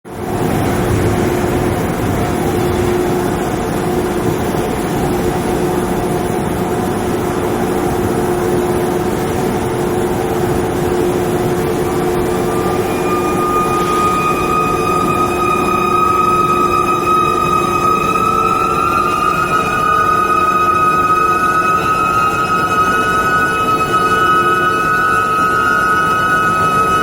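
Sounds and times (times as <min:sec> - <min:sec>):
high steady whine: 0:00.1 - 0:27.0
industrial machinery humming: 0:00.1 - 0:27.0.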